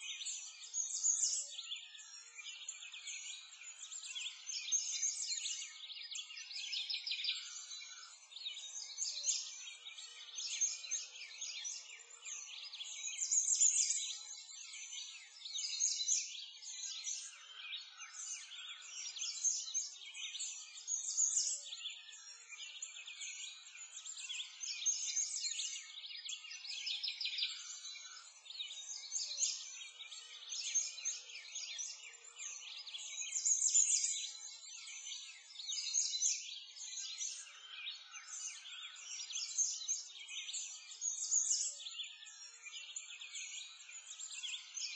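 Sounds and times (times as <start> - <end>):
songbirds chirping and singing: 0.0 - 44.9.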